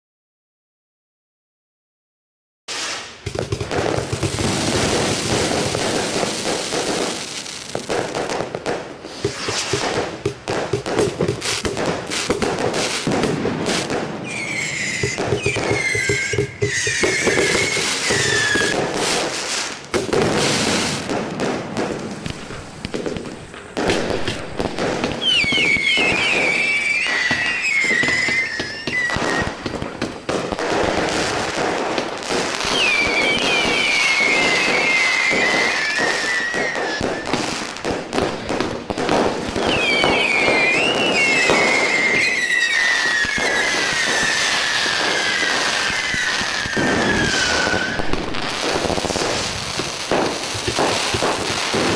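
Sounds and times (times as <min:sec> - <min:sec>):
falling firework whistles: 0:02.7 - 0:51.9
fireworks bangs and crackles: 0:02.7 - 0:51.9.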